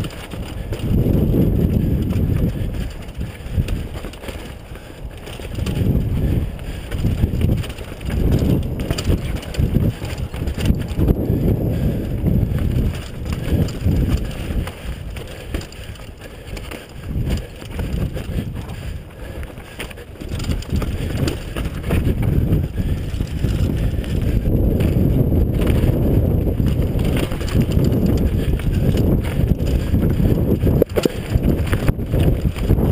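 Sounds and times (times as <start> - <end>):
bike knocks and rattles: 0.0 - 32.9
bike tyres rumbling over dirt: 0.0 - 32.9
wind buffeting microphone: 0.0 - 32.9.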